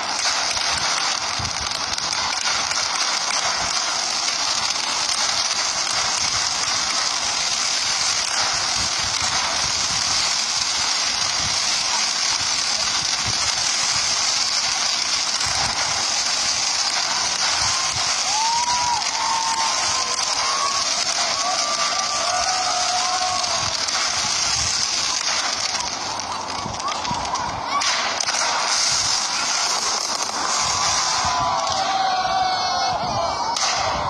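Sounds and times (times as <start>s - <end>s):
dull thuds of fireworks launching: 0.0s - 34.0s
fireworks crackling hiss: 0.0s - 34.0s.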